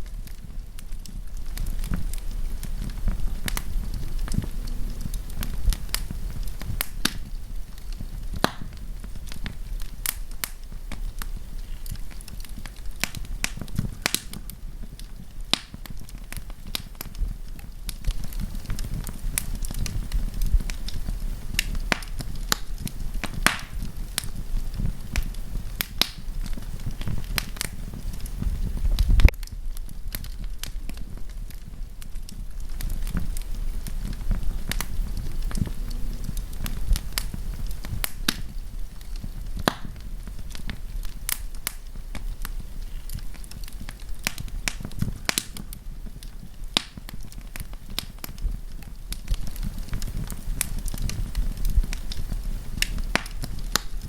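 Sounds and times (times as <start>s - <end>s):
campfire crackling and popping: 0.0s - 54.0s
low rumble of flame: 0.0s - 54.0s.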